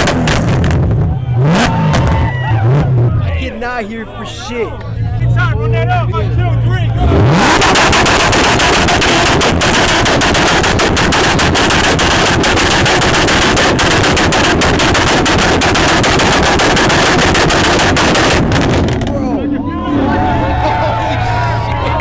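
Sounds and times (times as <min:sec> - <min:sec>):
car engine revving: 0:00.0 - 0:03.6, 0:04.8 - 0:22.0
exhaust crackling: 0:00.0 - 0:22.0.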